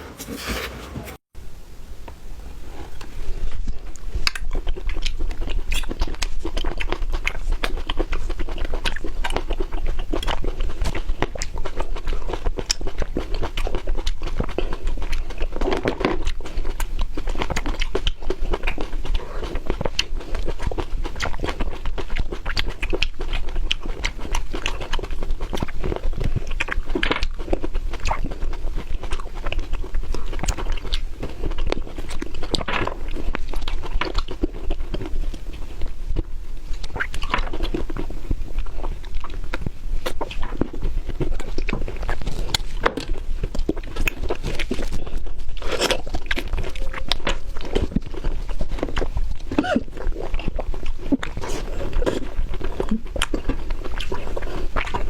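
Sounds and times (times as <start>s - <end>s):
person chewing crunchy food: 2.5s - 55.0s.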